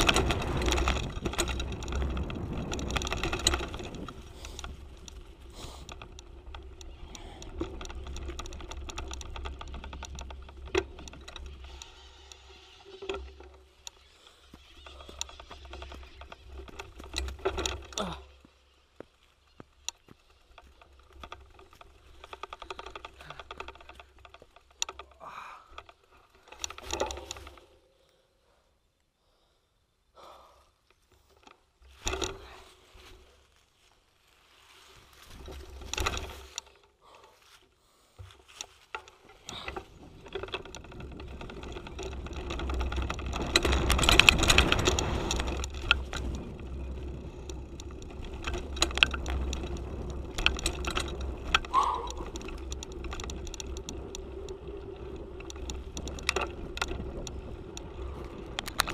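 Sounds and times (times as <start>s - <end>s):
bike chain and frame rattling: 0.0s - 28.1s, 30.8s - 58.9s
bike tyres on dirt: 0.0s - 58.9s.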